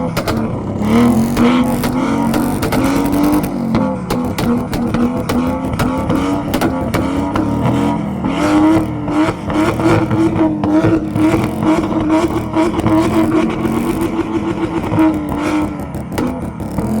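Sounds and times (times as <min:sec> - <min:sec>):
car engine revving high: 0:00.0 - 0:17.0
exhaust crackles: 0:00.0 - 0:17.0.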